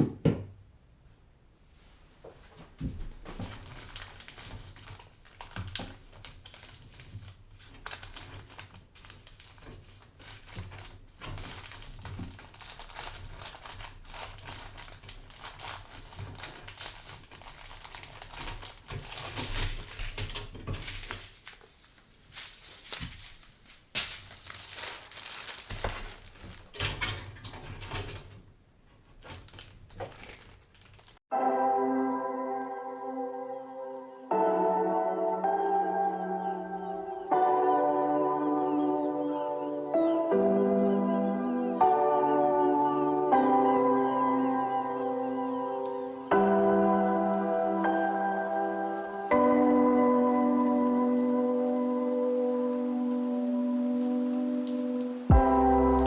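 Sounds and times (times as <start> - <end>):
plastic crinkling: 2.2 - 31.2, 32.0 - 56.0.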